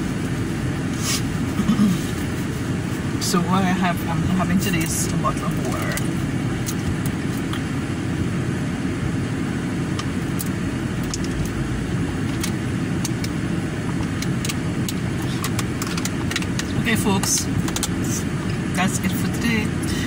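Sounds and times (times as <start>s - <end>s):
car engine rumbling inside cabin: 0.0s - 20.0s.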